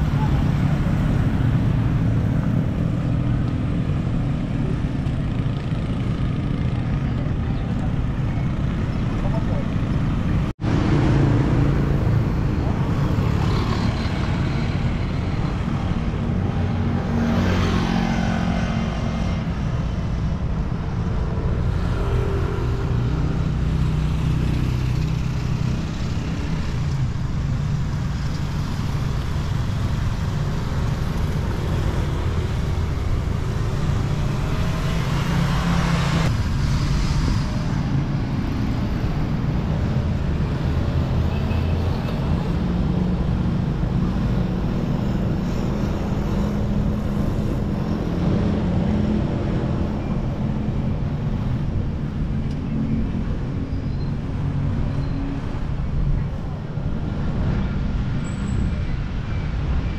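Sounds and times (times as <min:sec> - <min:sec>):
scooters and cars passing: 0:00.0 - 0:59.9
steady low traffic rumble: 0:00.0 - 0:59.9.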